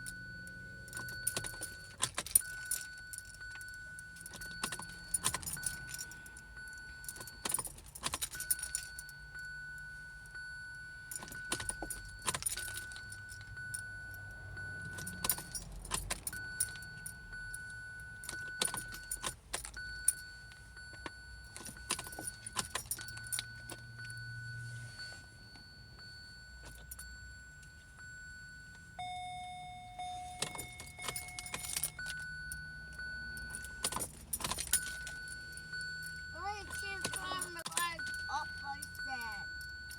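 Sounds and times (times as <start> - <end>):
ignition key clicks: 0.0 - 24.4, 25.5 - 39.9
key ring jangling: 0.0 - 24.6, 25.4 - 39.9
car chime: 0.0 - 39.9.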